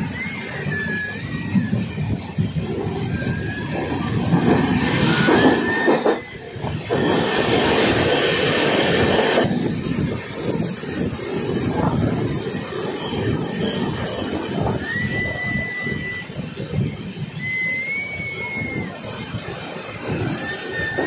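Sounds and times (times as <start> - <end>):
high wheel squeal: 0.0 - 21.0
train rumbling over track: 0.0 - 21.0.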